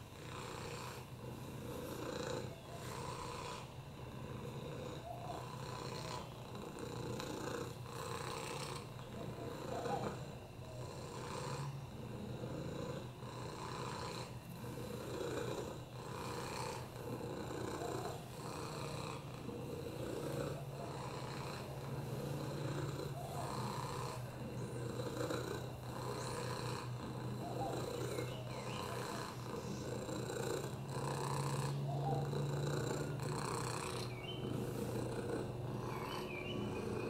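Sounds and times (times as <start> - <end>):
cat purring: 0.0 - 37.0.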